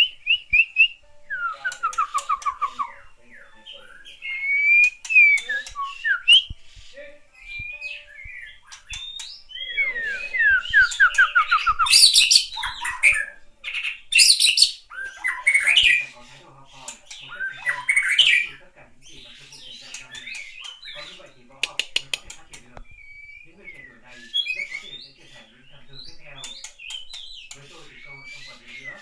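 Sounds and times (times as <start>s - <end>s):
harsh bird squawks: 0.0s - 7.0s, 7.6s - 29.0s
descending whistled bird notes: 0.0s - 21.5s, 22.8s - 29.0s.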